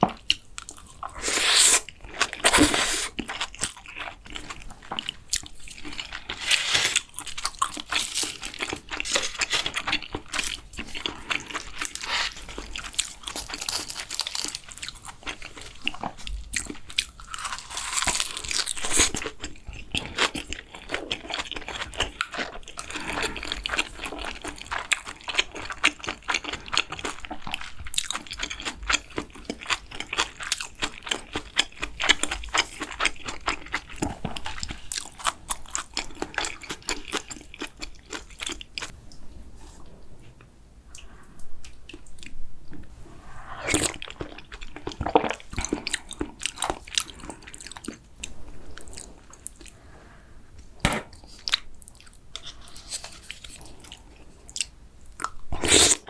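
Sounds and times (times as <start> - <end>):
food being chewed: 0.0 - 39.2, 43.6 - 49.9, 50.8 - 56.0.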